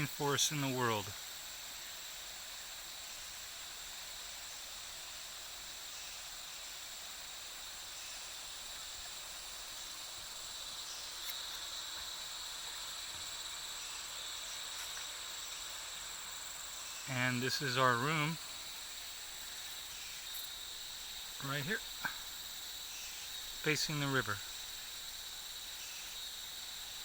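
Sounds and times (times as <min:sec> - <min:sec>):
insect chorus: 0:00.0 - 0:27.0.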